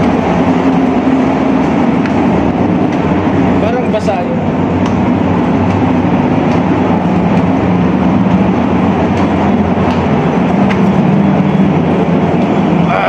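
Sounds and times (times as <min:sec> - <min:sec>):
ship engines droning: 0:00.0 - 0:13.0.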